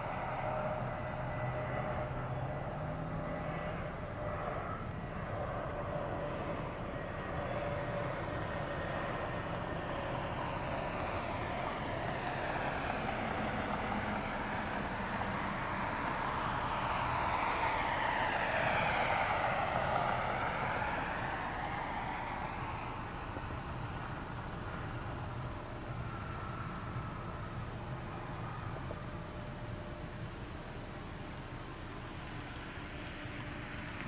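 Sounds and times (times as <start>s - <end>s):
jet airliner passing: 0.0s - 34.0s.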